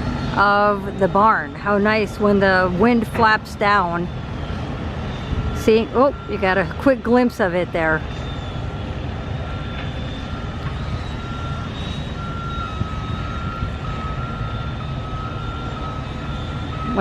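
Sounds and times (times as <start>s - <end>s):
reversing alarm beeping: 0.0s - 17.0s.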